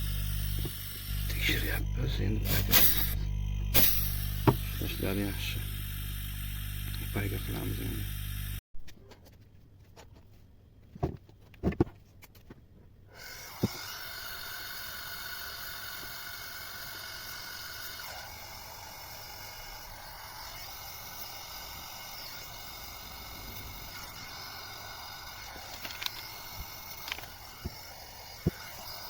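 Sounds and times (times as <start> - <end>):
gas torch hissing: 0.0 - 8.6, 13.2 - 29.0.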